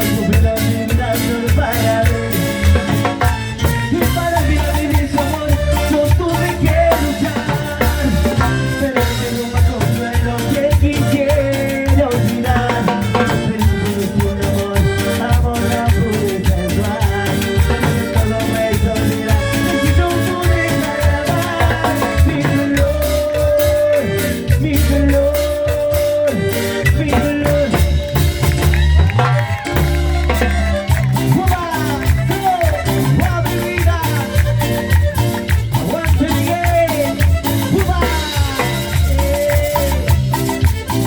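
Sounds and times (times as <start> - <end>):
salsa music with percussion: 0.0 - 41.0.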